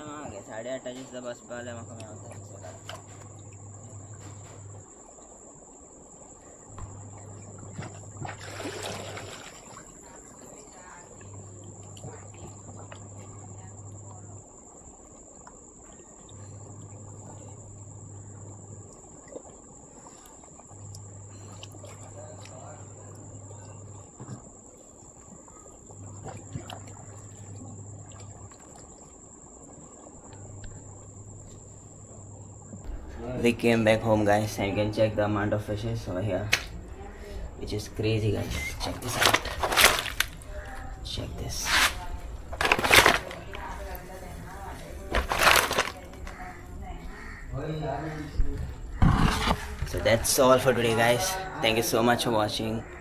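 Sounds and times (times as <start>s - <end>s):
crickets trilling: 0.0s - 53.0s
low hum: 0.0s - 53.0s.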